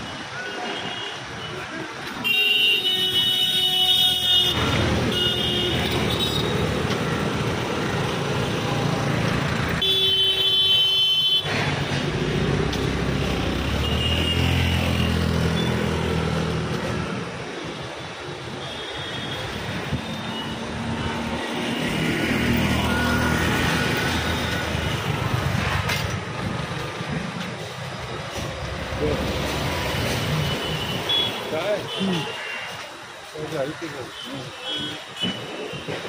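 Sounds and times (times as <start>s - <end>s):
traffic engines running: 0.0s - 36.0s.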